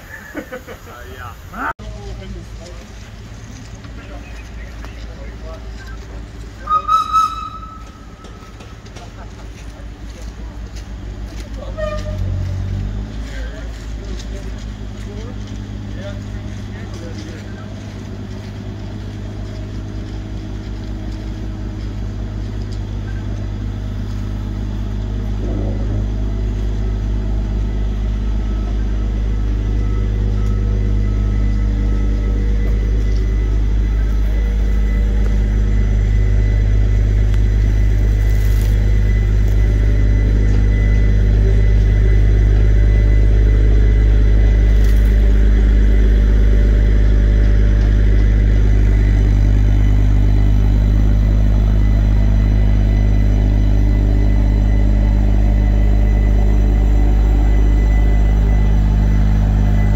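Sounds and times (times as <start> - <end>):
locomotive engine drone: 0.0 - 59.9.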